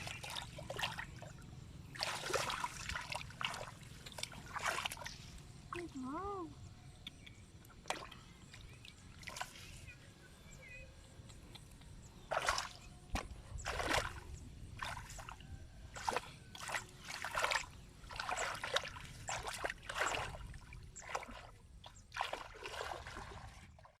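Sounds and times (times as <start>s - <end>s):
water splashing and sloshing: 0.0s - 6.5s, 7.4s - 10.1s, 11.5s - 24.0s.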